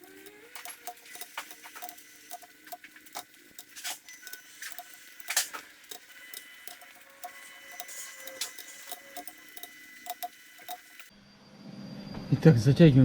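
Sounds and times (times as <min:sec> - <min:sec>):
hand tools clicking on metal: 0:00.0 - 0:11.1.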